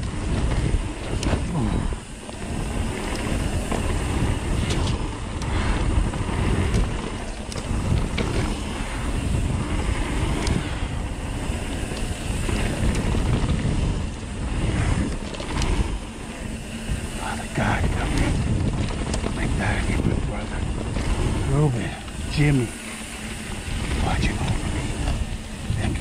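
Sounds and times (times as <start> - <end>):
tyre noise on dirt: 0.0 - 26.0
wind noise on microphone: 0.0 - 26.0
sharp clicks and rattles: 2.2 - 26.0.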